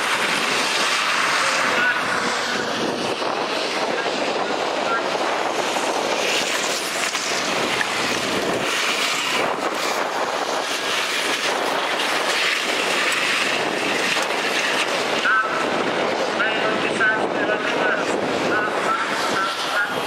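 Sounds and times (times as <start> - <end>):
bus engines driving past: 0.0 - 20.0.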